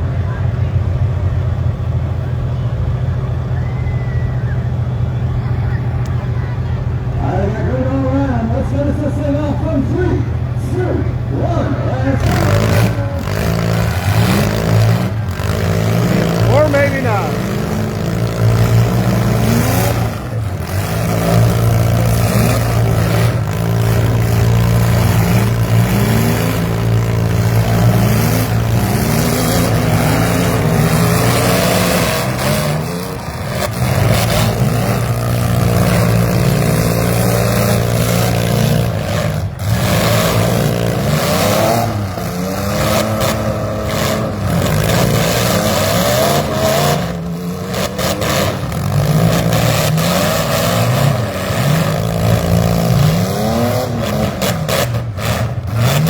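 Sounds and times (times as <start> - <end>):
engines revving: 0.0 - 56.0.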